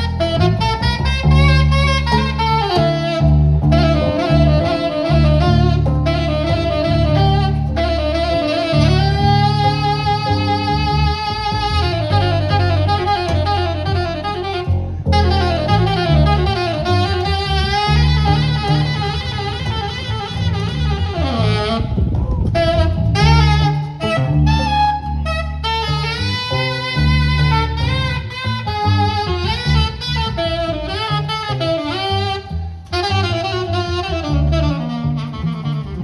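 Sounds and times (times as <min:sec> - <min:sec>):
plucked guitar notes: 0:00.0 - 0:31.2
saxophone melody: 0:00.0 - 0:36.0
upright bass: 0:00.0 - 0:36.0.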